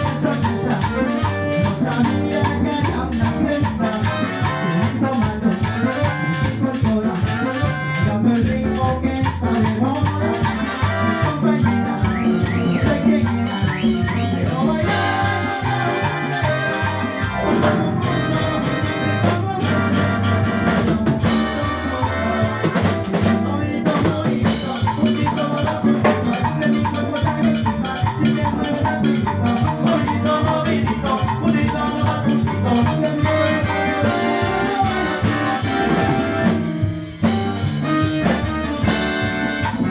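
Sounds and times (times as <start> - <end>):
latin dance orchestra playing: 0.0 - 39.9.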